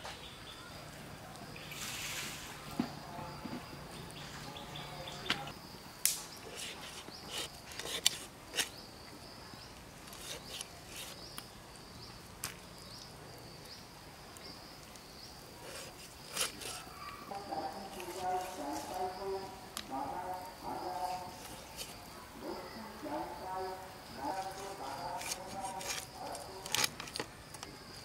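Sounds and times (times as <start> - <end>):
high insect trill: 0.0 - 28.0.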